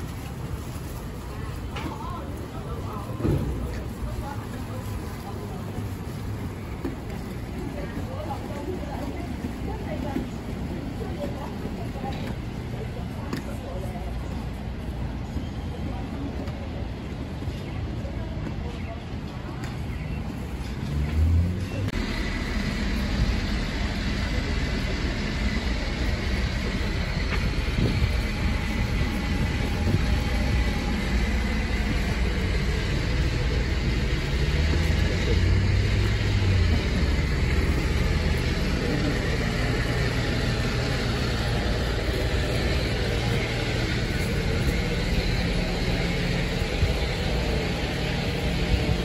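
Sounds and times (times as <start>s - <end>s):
passing and idling cars: 0.0s - 49.0s
vehicle engine low hum: 0.0s - 49.0s.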